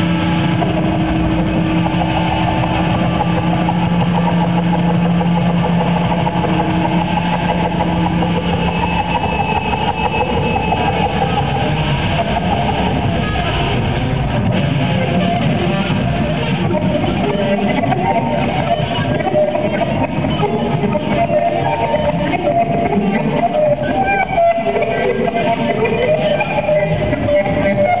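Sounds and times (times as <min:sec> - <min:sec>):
electric guitar noise drone: 0:00.0 - 0:28.0
steady held tones: 0:00.0 - 0:28.0.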